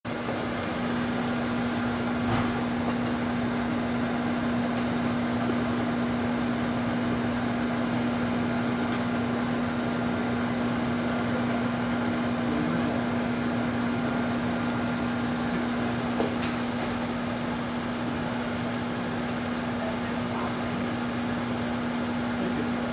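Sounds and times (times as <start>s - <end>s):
microwave fan whirring: 0.0s - 22.9s
microwave oven humming: 0.0s - 22.9s.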